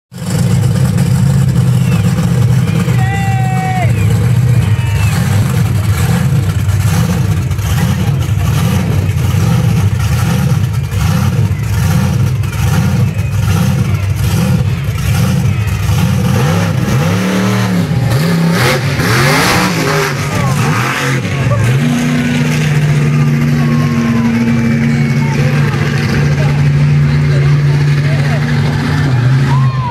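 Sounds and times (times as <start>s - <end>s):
truck engine revving: 0.1s - 29.9s.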